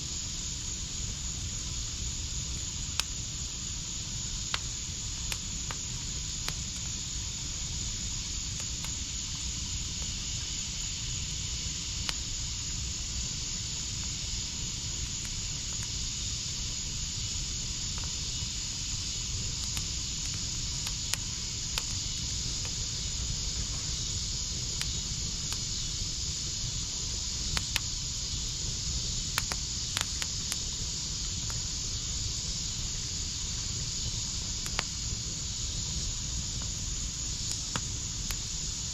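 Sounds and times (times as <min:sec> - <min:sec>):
fire hiss: 0:00.0 - 0:38.9
wood fire crackling and popping: 0:00.2 - 0:38.9.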